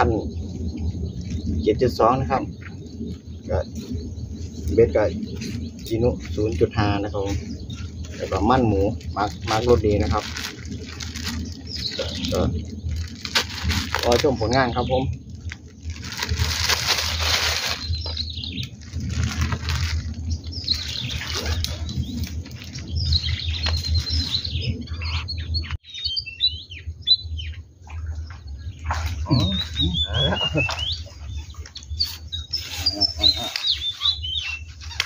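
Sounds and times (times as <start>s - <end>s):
wild birds chirping: 0.0s - 35.0s
wind on the microphone: 0.0s - 35.0s.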